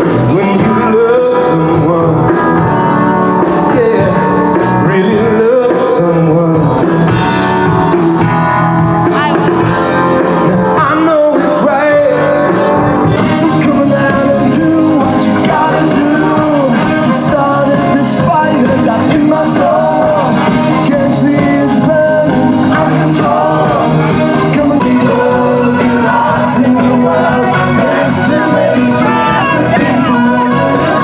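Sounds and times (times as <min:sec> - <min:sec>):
rock pop song with singing: 0:00.0 - 0:31.0.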